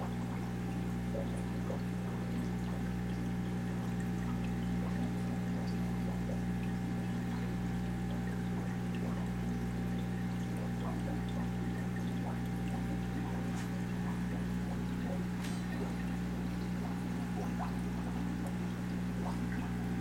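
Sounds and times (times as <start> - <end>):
low electrical hum: 0.0 - 20.0
water trickling into tank: 0.0 - 20.0.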